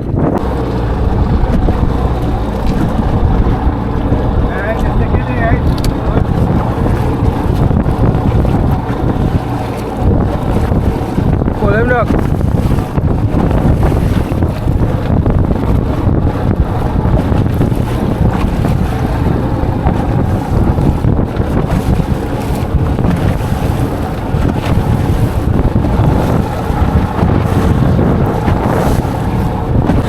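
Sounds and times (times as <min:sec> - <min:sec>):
sea wash: 0:00.0 - 0:30.0
wind buffeting microphone: 0:00.0 - 0:30.0.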